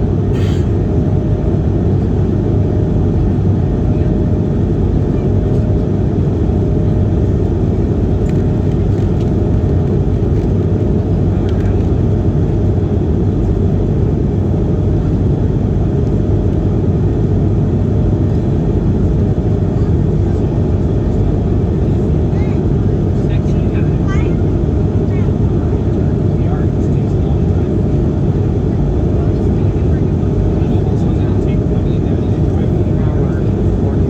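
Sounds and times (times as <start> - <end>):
airplane cabin engine rush: 0.0 - 34.0.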